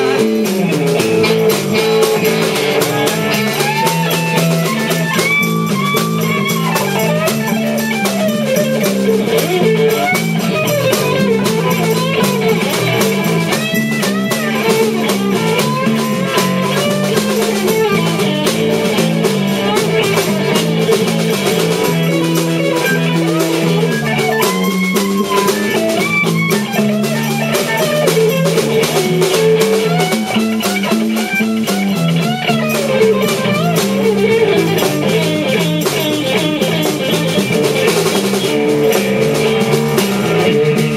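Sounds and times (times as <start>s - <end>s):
bass guitar: 0.0s - 40.9s
drum kit: 0.0s - 40.9s
electric guitar lead with bending notes: 0.0s - 40.9s.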